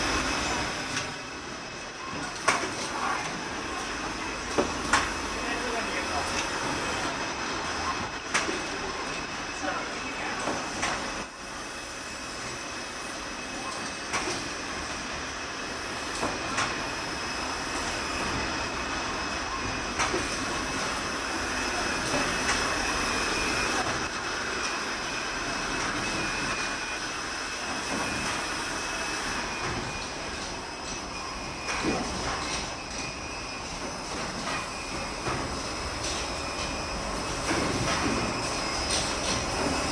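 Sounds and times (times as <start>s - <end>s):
sewing machine clatter and hum: 0.0s - 39.9s.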